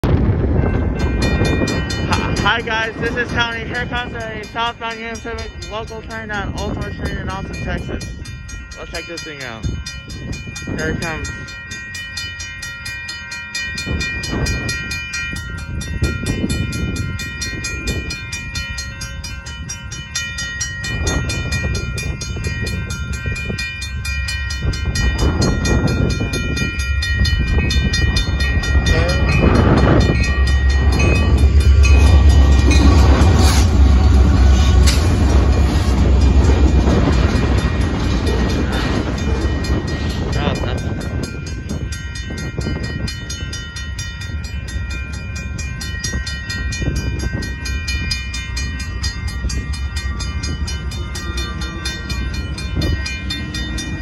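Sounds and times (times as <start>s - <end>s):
diesel locomotive rumble: 0.0s - 54.0s
railroad crossing bells ringing: 0.0s - 54.0s.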